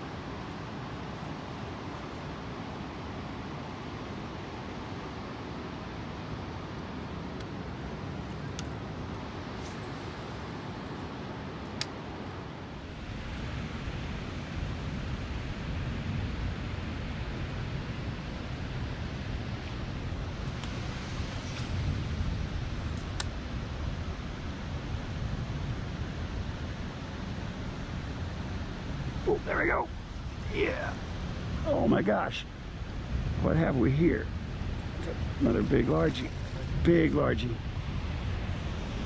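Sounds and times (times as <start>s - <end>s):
water: 0.0s - 39.0s
wind: 0.0s - 39.0s.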